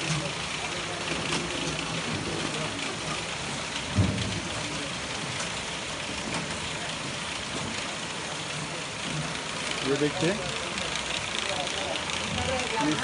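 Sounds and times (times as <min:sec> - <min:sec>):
grading machine rattling: 0:00.0 - 0:13.0.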